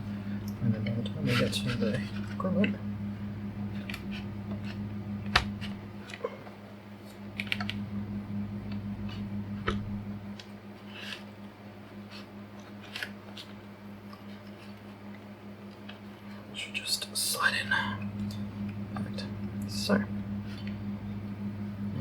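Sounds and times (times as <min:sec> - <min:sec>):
electric fan humming: 0:00.0 - 0:22.0.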